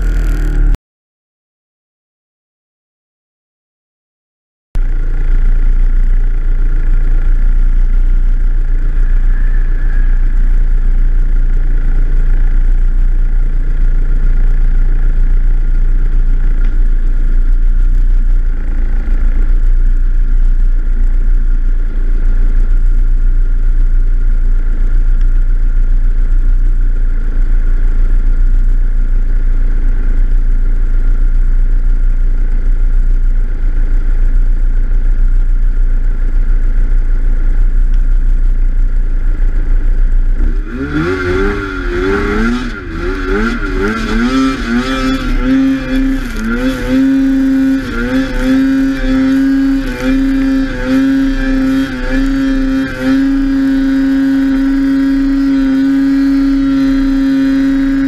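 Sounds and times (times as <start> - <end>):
snowmobile engine idling: 0.0 - 0.8, 4.8 - 58.0.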